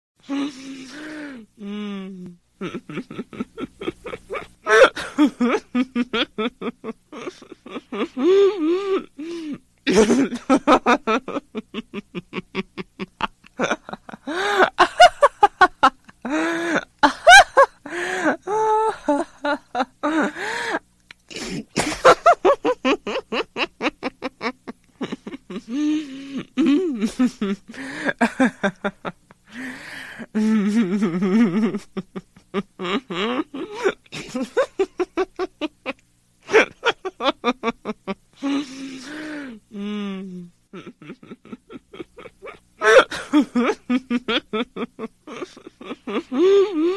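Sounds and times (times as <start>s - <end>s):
woman laughing hysterically: 2.6s - 20.8s, 21.4s - 29.7s, 30.4s - 39.5s, 40.8s - 46.9s.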